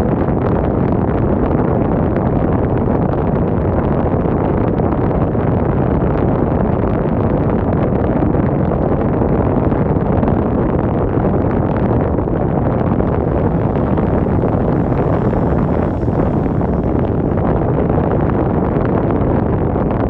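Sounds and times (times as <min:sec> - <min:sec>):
wind blowing on microphone: 0:00.0 - 0:20.0.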